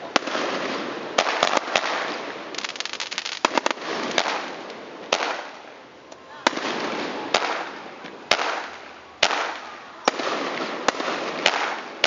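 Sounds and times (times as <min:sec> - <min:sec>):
fireworks bangs: 0:00.0 - 0:12.0
fireworks crackles: 0:00.0 - 0:12.0
fireworks hiss: 0:00.0 - 0:12.0.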